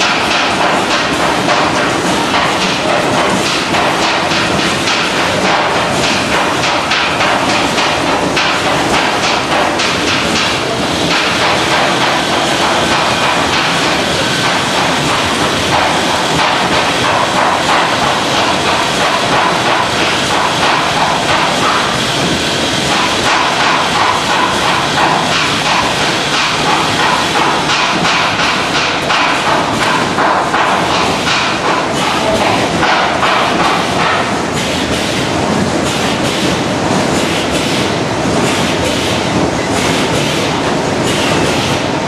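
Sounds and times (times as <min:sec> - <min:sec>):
packaging machinery clattering: 0:00.0 - 0:42.0.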